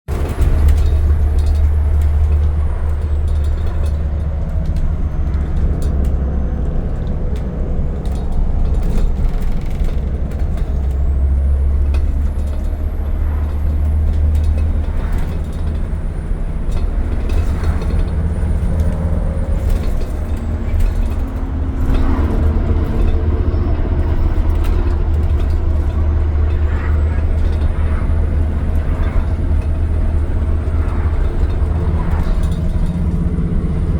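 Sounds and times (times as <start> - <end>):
bus engine and road drone: 0.0 - 33.9
knocks and rattles: 0.1 - 33.9.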